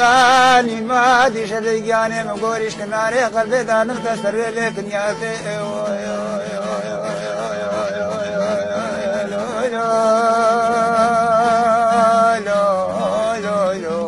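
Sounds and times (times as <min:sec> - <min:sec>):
person singing ornamented chant: 0:00.0 - 0:14.0.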